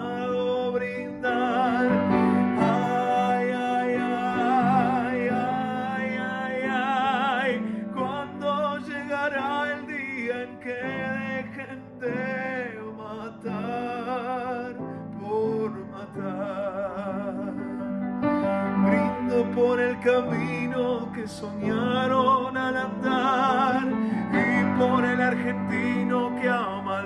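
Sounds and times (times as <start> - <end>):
man singing with vibrato: 0.0 - 27.0.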